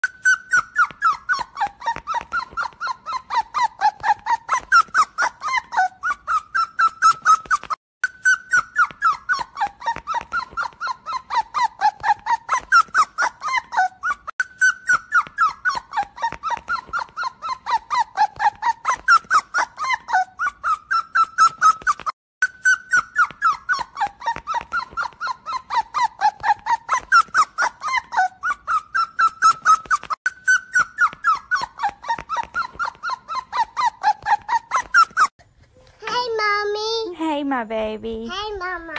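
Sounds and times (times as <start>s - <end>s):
puppy whimpering: 0.0s - 35.3s.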